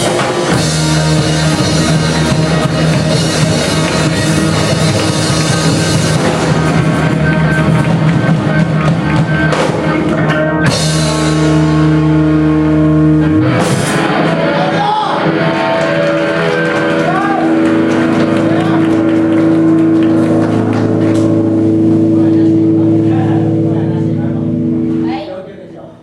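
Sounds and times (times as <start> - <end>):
drum kit: 0.0 - 25.0
bending guitar notes: 0.0 - 25.2
rock band playing loud: 0.0 - 25.2.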